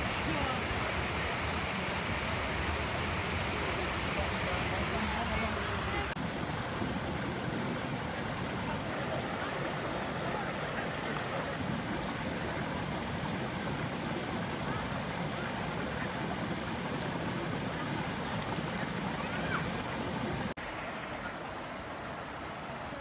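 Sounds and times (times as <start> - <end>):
water rushing over a weir: 0.0 - 23.0.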